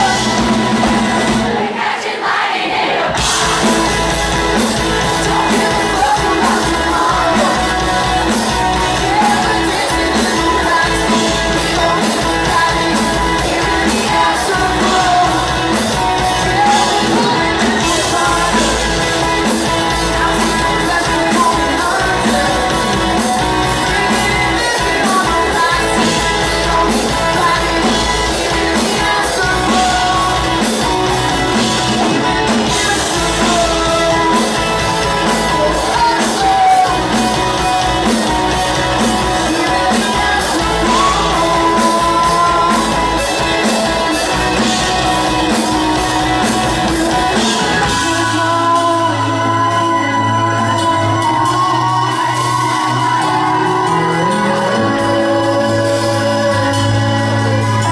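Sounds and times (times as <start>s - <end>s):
man singing: 0.0s - 1.0s, 3.2s - 57.9s
electric guitars: 0.0s - 1.7s, 3.0s - 57.9s
drum kit beat: 0.0s - 2.3s, 3.0s - 57.9s.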